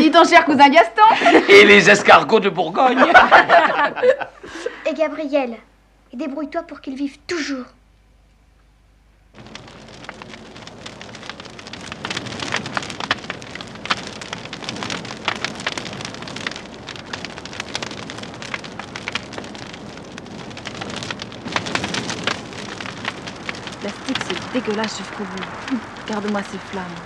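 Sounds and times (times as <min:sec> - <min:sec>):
bonfire crackling and popping: 0:00.0 - 0:05.5, 0:06.2 - 0:27.0.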